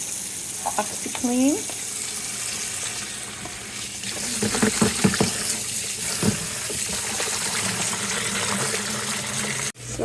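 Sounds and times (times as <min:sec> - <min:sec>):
tap water running into sink: 0:00.0 - 0:09.7.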